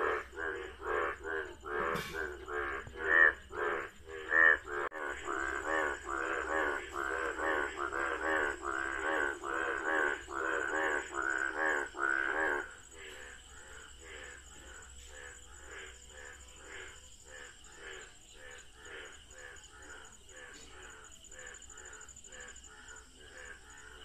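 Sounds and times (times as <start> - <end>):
frogs croaking: 0.0 - 24.0.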